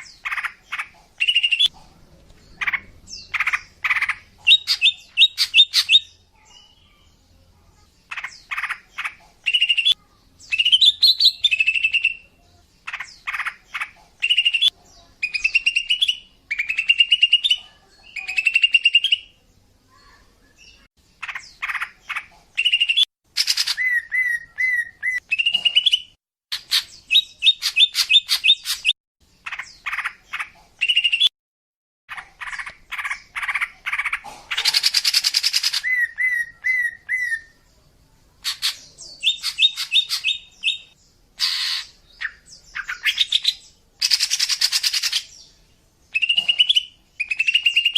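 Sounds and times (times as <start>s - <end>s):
bird chattering and whistling: 0.0s - 1.7s, 2.6s - 6.7s, 8.1s - 19.4s, 21.2s - 31.3s, 32.1s - 37.6s, 38.4s - 45.5s, 46.1s - 47.9s.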